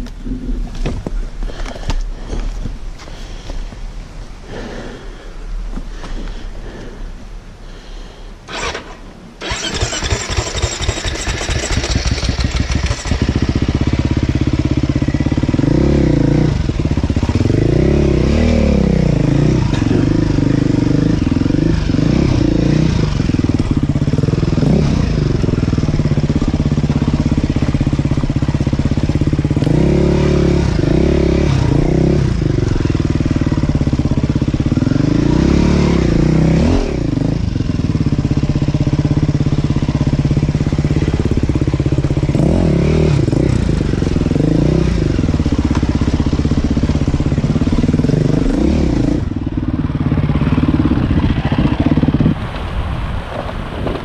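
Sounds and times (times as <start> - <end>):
dirt bike engine revving: 8.5 - 52.5.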